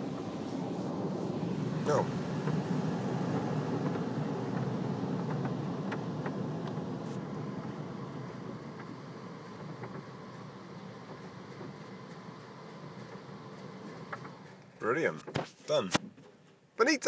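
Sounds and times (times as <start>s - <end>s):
car wash blowers rushing air: 0.0s - 15.2s.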